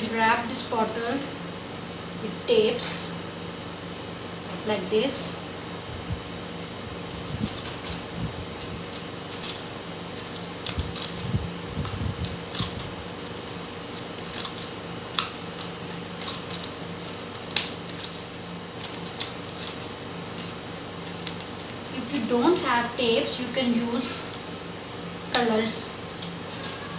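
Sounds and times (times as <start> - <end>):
faint hum: 0.0 - 26.9.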